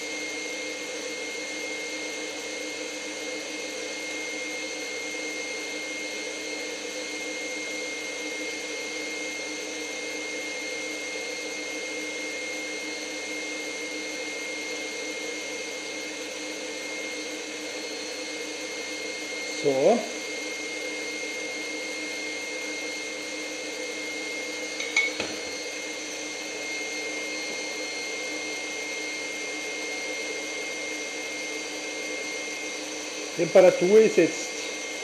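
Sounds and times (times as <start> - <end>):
stand mixer motor whine: 0.0 - 35.0.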